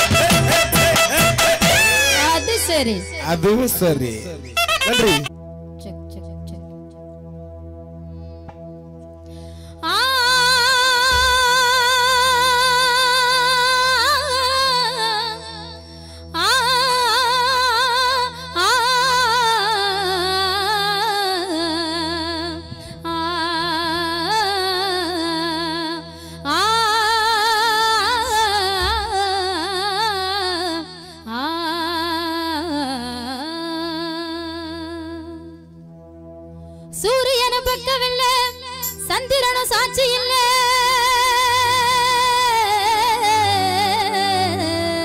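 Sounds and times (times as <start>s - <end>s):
woman singing with vibrato: 0.0s - 3.2s, 9.8s - 15.8s, 16.4s - 35.5s, 37.0s - 45.0s
keyboard drone: 0.0s - 45.0s.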